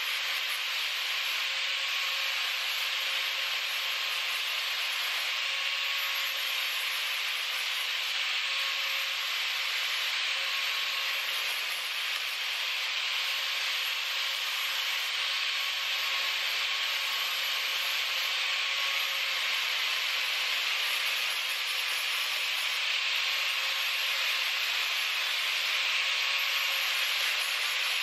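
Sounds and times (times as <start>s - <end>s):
angle grinder grinding metal: 0.0s - 28.0s
faint motor whine: 0.0s - 28.0s.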